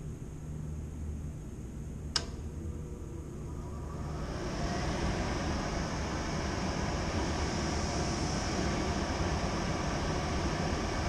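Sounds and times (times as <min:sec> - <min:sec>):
fan blower rushing air: 0:00.0 - 0:11.0.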